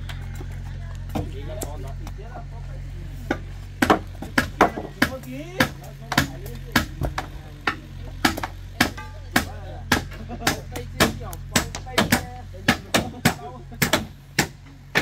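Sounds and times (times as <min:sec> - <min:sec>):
wood being chopped: 0:00.0 - 0:02.2, 0:03.2 - 0:15.0.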